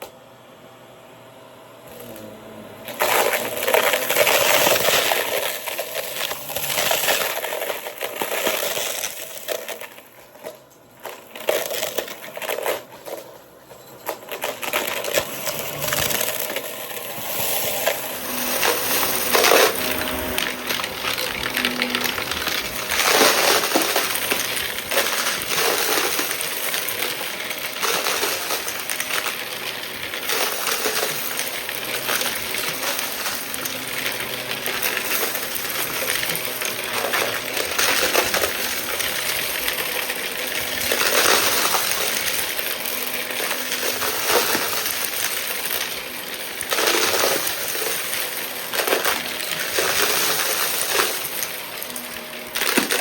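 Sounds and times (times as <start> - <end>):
vacuum cleaner running: 0.0 - 53.0
debris rattling through hose: 2.9 - 53.0.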